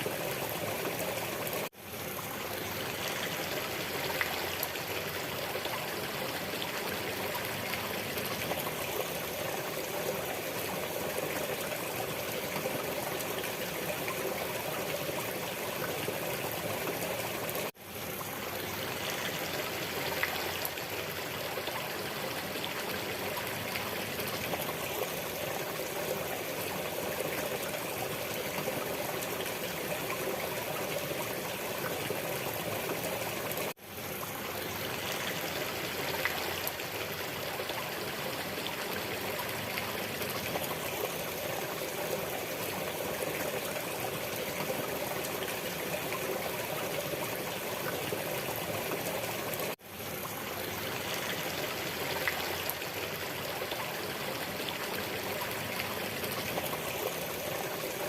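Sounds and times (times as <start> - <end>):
stream trickling and rushing: 0.0 - 58.0.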